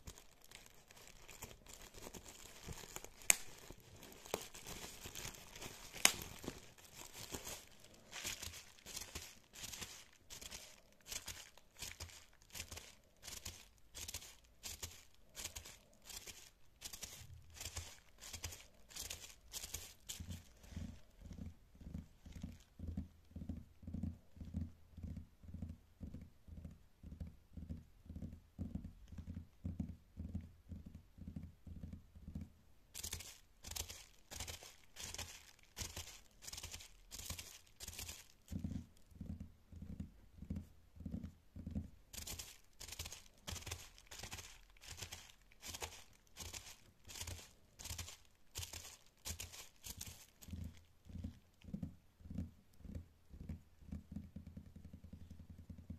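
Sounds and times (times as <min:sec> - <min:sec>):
fingertips tapping on bubble wrap: 0:00.0 - 0:55.9.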